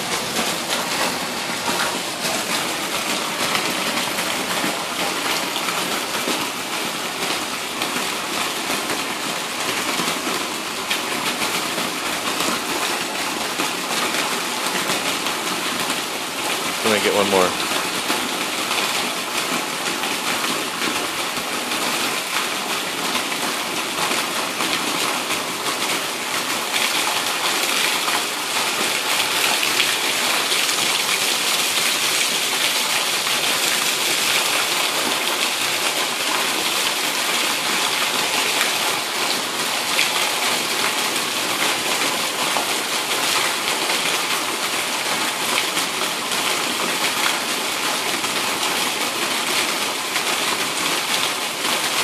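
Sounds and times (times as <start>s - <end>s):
heavy rain pouring: 0.0s - 52.0s
runoff spilling off roof: 0.0s - 52.0s.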